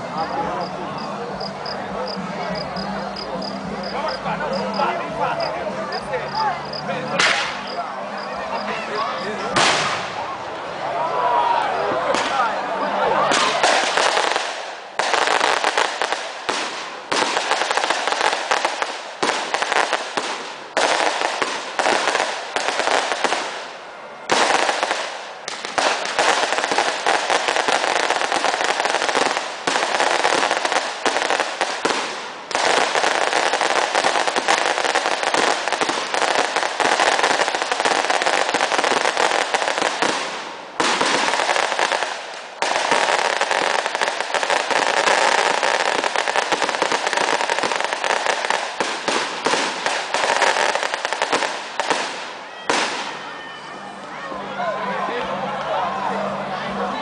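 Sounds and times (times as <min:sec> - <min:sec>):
fireworks crackling and popping: 0:00.0 - 0:10.5, 0:12.0 - 0:53.5.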